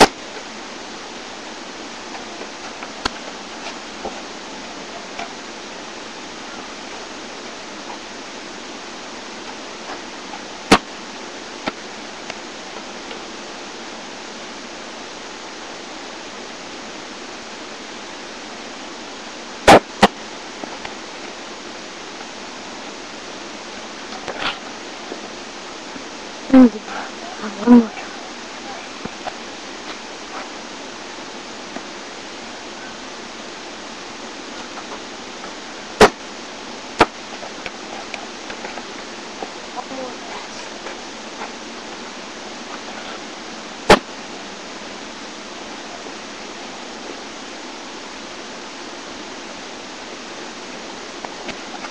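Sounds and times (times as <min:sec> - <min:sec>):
steady hiss: 0:00.0 - 0:51.9.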